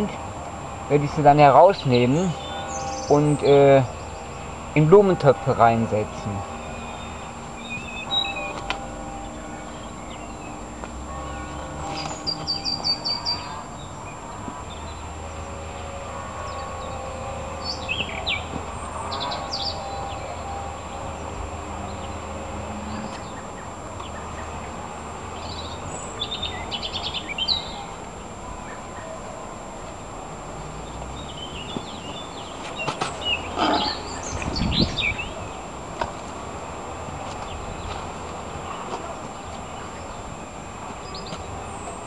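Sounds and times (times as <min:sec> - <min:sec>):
small birds chirping: 0:01.0 - 0:29.2, 0:30.6 - 0:35.7, 0:37.1 - 0:42.0.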